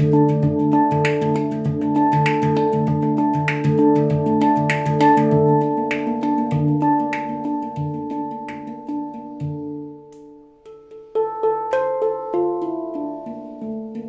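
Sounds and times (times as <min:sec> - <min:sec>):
handpan notes ringing: 0:00.0 - 0:14.0.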